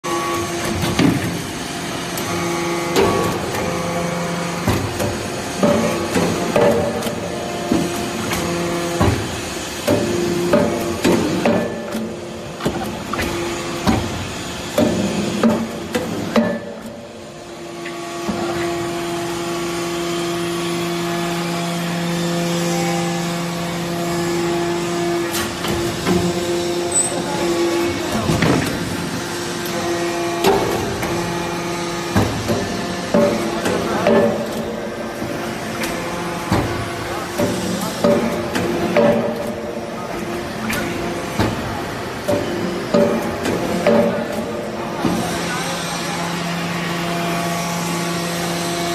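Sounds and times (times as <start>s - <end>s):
hydraulic drive humming: 0.1s - 48.9s.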